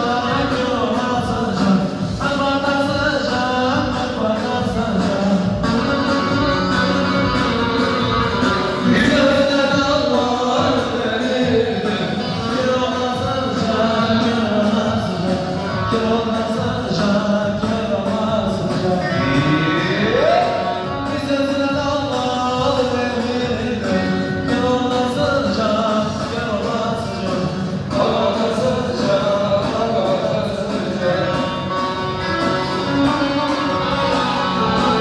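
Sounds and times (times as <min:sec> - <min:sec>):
folk dance music with singing: 0:00.0 - 0:35.0.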